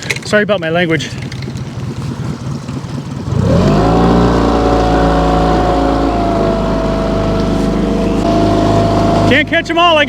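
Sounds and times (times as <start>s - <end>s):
outboard motor throttling up: 1.1s - 10.0s.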